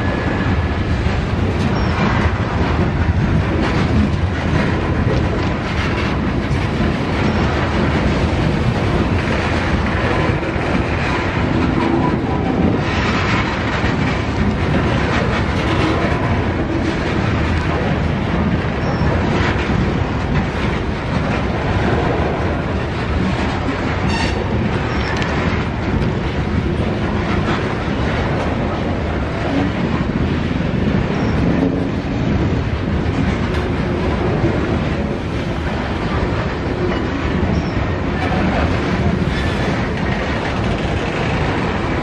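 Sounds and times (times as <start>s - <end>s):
train wheels rumbling on rails: 0.0s - 42.0s
wheels clacking over rail joints: 0.0s - 42.0s.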